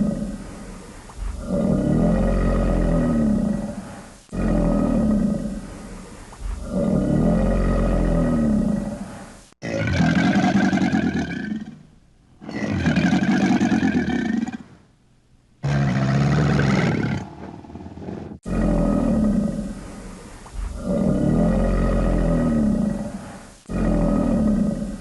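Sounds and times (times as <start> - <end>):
alligator growling roars: 0.0 - 11.8, 15.6 - 25.0.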